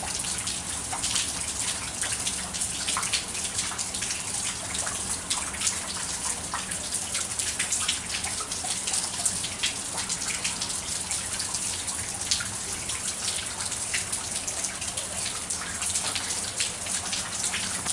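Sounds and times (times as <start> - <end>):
raindrops ticking on surfaces: 0.0 - 17.9
steady rainfall hiss: 0.0 - 17.9.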